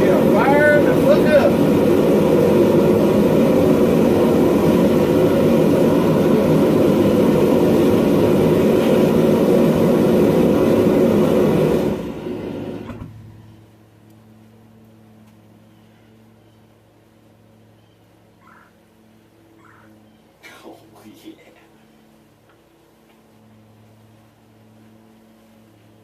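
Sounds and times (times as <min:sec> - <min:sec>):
gas burners roaring: 0:00.0 - 0:26.0.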